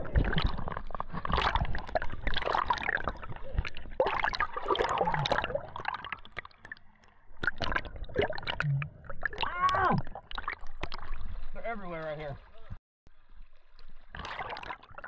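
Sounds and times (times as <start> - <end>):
water sloshing and gurgling: 0.0 - 15.0.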